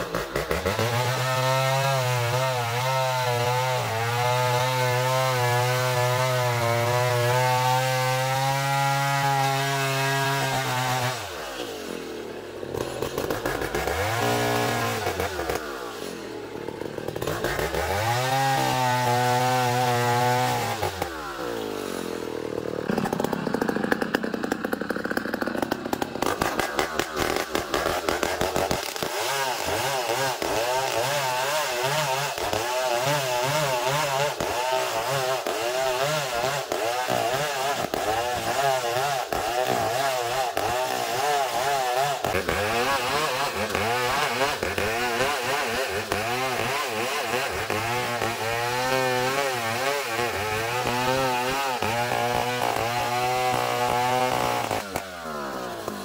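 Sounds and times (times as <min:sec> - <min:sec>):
engine-driven saw cutting log: 0:00.0 - 0:56.0.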